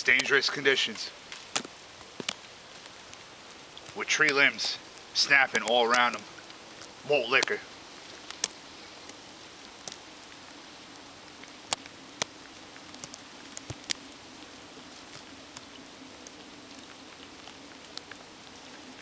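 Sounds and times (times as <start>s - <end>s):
snow and drips falling: 0.0s - 19.0s
steady snowstorm hiss: 0.0s - 19.0s.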